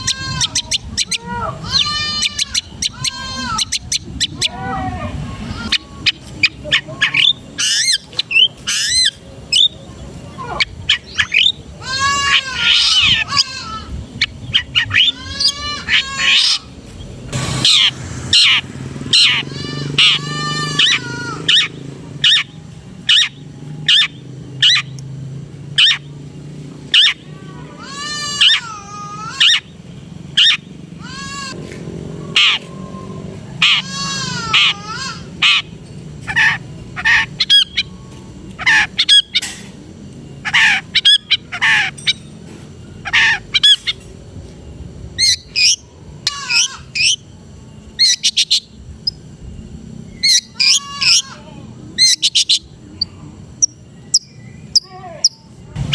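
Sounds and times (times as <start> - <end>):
bird singing: 0.0 - 4.7, 5.4 - 44.1, 44.7 - 55.9
steady low hum: 0.0 - 55.9.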